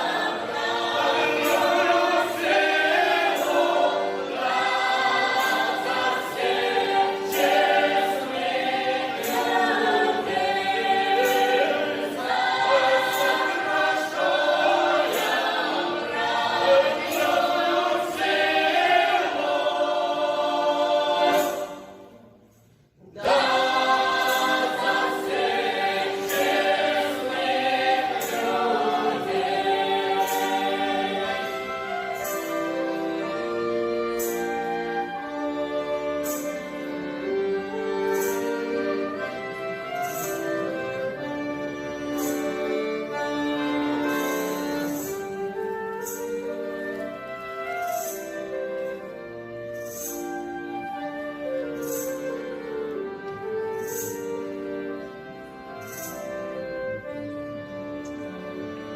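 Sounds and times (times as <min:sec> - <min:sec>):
choir singing in parts: 0:00.0 - 0:58.9.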